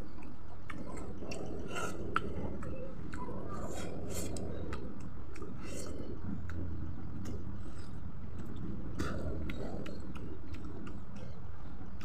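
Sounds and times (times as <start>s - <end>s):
person chewing: 0.0s - 11.4s
wet mouth clicks: 0.0s - 12.0s.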